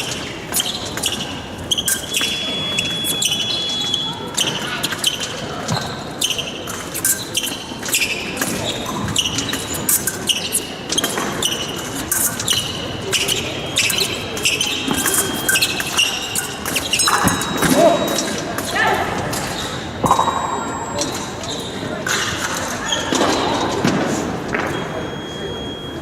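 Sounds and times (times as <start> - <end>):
shoes squeaking: 0.0 - 26.0.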